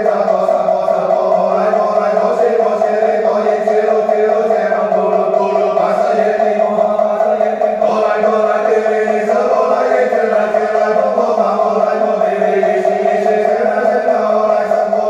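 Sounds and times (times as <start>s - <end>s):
prayer chanting: 0.0s - 15.0s.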